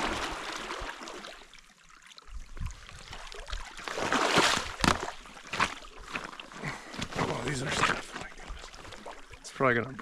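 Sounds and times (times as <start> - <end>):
water splashing around wading steps: 0.0 - 10.0.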